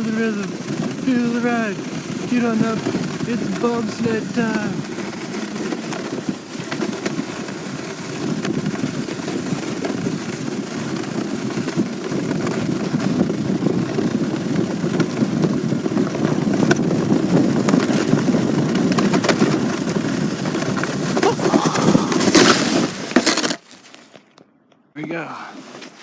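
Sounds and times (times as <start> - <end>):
sled scraping on snow: 0.0 - 24.2, 25.0 - 26.0.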